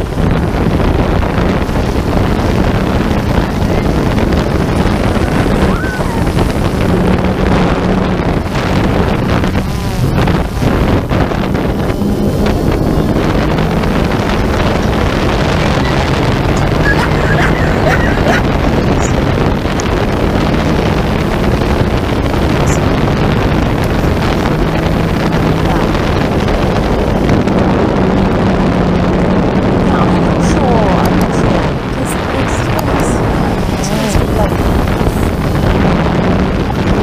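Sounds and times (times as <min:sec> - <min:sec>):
low motor drone: 0:00.0 - 0:37.0
wind noise on microphone: 0:00.0 - 0:37.0.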